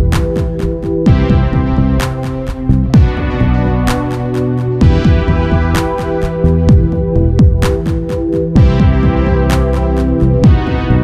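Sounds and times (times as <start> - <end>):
deep bass hits: 0.0 - 11.0
electronic music with synth chords: 0.0 - 11.0.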